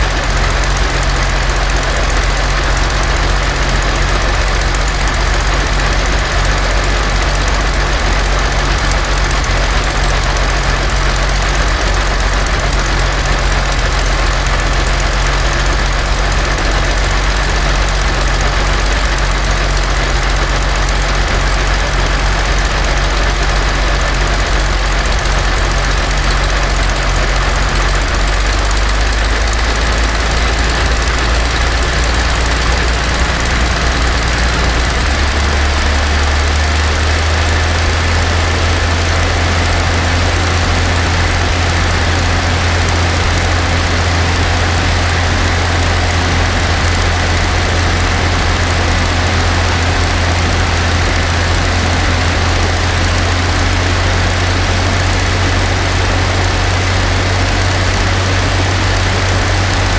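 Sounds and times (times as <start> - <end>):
aircraft engine running loud: 0.0 - 59.9.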